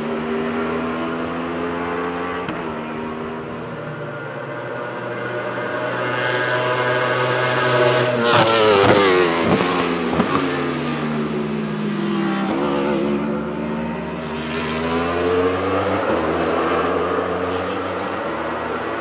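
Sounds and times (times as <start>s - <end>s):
race car engine passing at speed: 0.0s - 19.0s.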